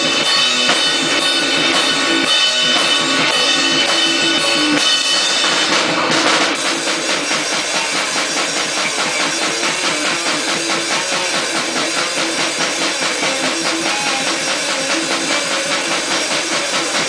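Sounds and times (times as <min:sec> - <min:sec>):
distorted noisy guitar: 0:00.0 - 0:17.0
fast steady drumming: 0:00.0 - 0:17.0.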